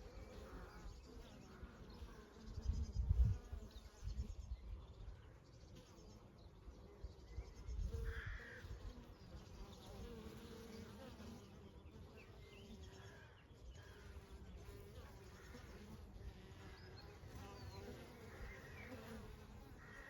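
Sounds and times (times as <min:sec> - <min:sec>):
honey bees buzzing: 0:00.0 - 0:20.0.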